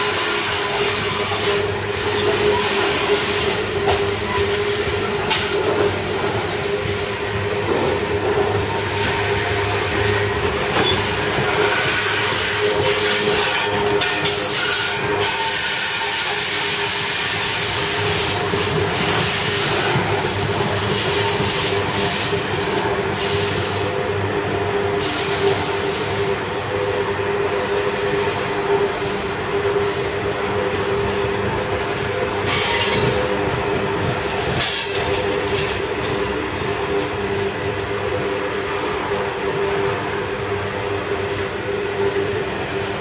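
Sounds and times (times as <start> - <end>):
train wheels rolling on rails: 0.0 - 43.0.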